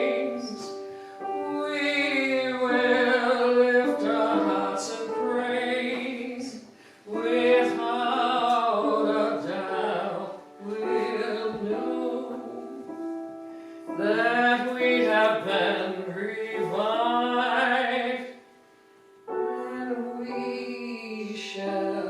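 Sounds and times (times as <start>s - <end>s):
slow hymn singing: 0.0s - 22.0s.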